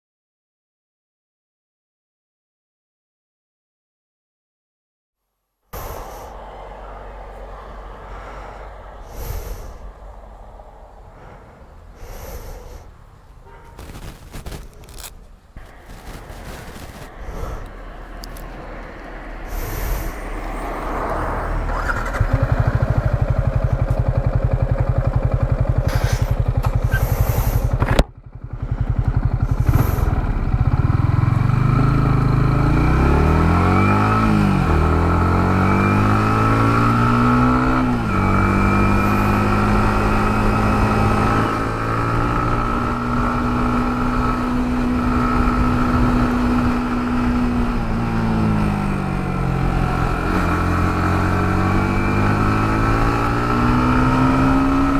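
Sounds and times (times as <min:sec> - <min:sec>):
motorcycle engine revving: 0:05.8 - 0:54.9.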